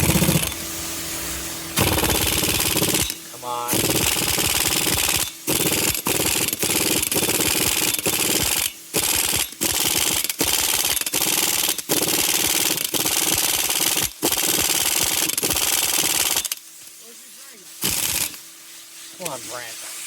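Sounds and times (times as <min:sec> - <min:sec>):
air impact wrench hammering: 0:00.0 - 0:17.0, 0:17.7 - 0:18.5.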